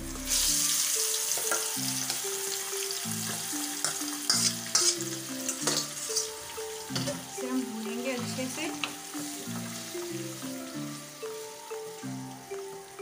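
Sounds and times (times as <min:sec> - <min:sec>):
background music: 0:00.0 - 0:13.0
chicken sizzling in hot oil: 0:00.0 - 0:13.0.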